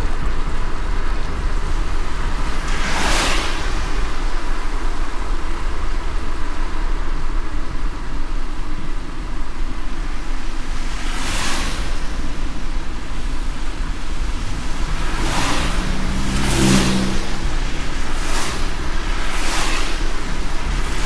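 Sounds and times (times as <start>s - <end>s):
car road rumble: 0.0s - 21.0s
rain and tyre spray hiss: 0.0s - 21.0s.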